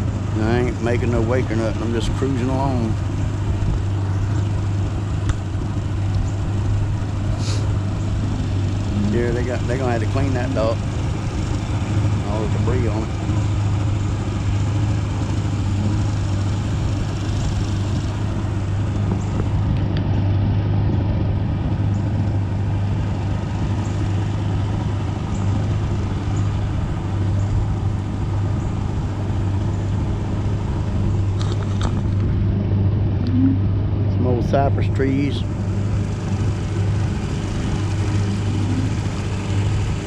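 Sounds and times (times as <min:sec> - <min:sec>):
outboard motor droning: 0:00.0 - 0:40.0.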